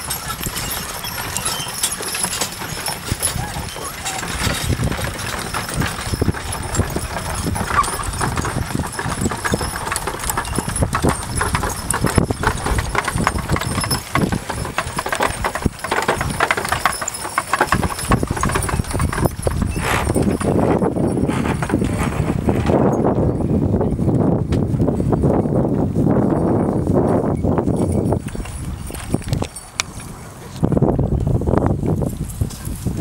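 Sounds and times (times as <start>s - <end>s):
horse hooves clopping on grass: 0.0s - 33.0s.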